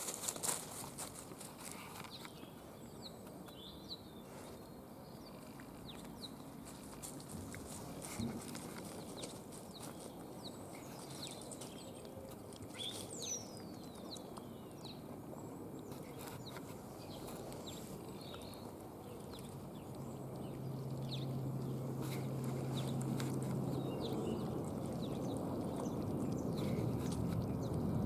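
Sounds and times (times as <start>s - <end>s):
low steady hum: 2.3s - 28.0s
foxes crunching meat: 5.1s - 28.0s.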